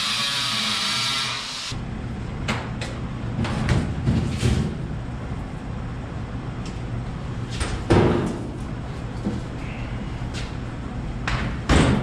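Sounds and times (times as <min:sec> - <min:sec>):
steady low hum: 0:01.7 - 0:12.0.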